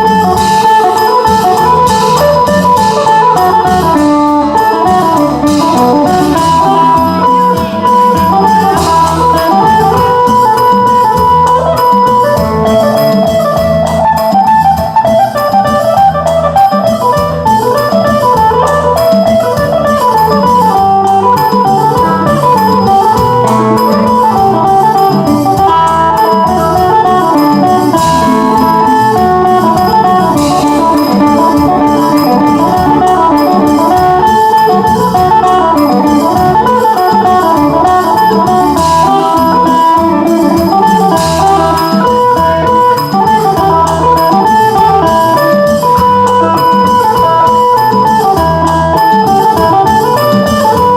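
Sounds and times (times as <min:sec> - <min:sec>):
plucked lute melody: 0:00.0 - 0:50.9
steady beat: 0:00.0 - 0:50.9.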